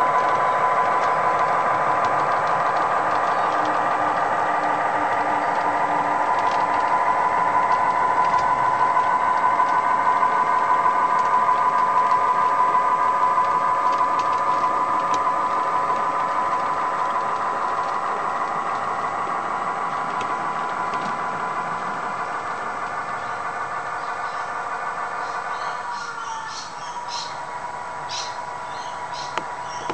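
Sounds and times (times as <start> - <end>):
model locomotive engine drone: 0.0 - 29.9.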